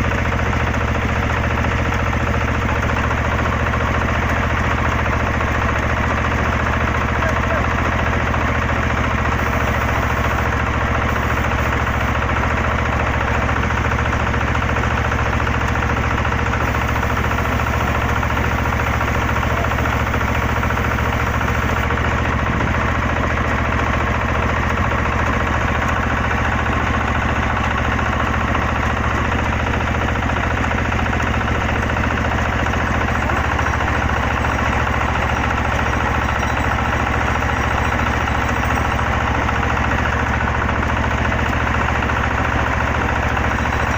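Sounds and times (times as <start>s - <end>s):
drilling rig engine running: 0.0s - 43.9s.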